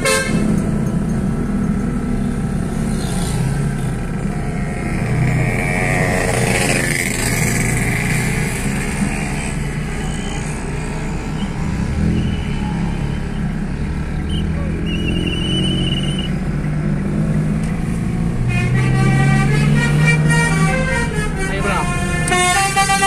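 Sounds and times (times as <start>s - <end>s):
vehicle engines rumbling in traffic: 0.0s - 23.0s.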